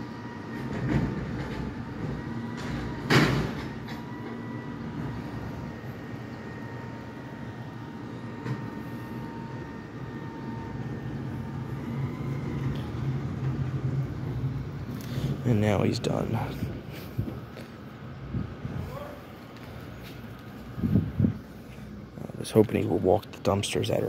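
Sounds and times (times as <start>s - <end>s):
diesel engine low drone: 0.0s - 24.0s
steady whine: 0.0s - 24.0s.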